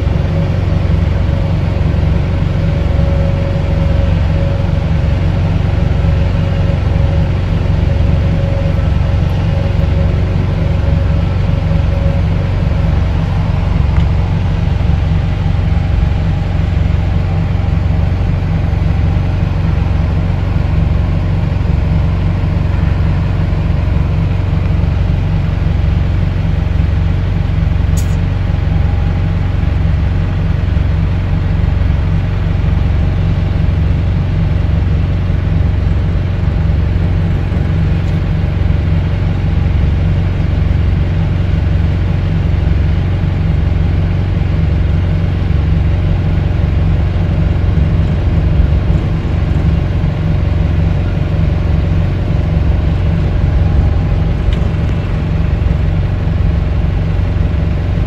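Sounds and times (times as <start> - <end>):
low engine rumble with throb: 0.0 - 58.0.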